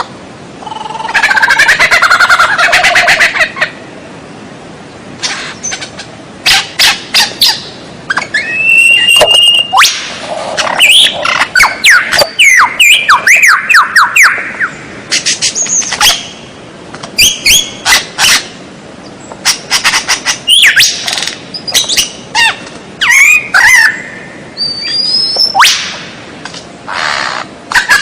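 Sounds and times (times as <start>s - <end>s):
songbird singing: 0.0s - 4.0s, 4.8s - 28.0s.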